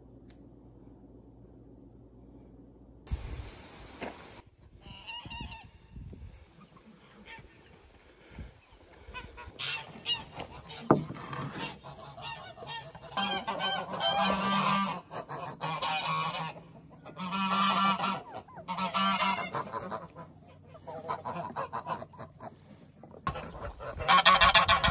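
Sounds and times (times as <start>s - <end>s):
geese honking: 4.8s - 24.9s.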